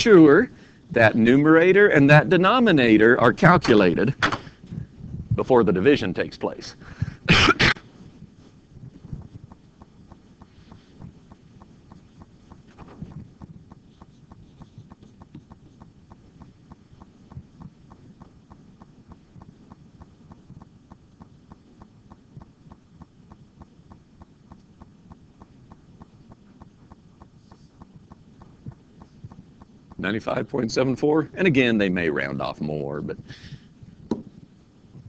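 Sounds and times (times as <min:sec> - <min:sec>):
faint regular ticking: 0:05.4 - 0:35.0.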